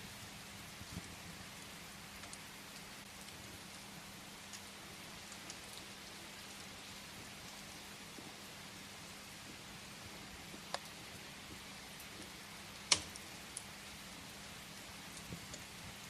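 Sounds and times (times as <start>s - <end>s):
rain pattering: 0.0s - 16.0s
wood fire crackling: 0.0s - 16.0s.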